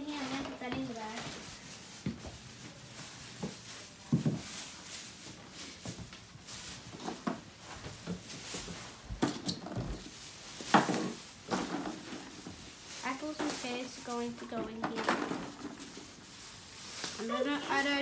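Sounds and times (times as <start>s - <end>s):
plastic bag rustling: 0.0s - 18.0s.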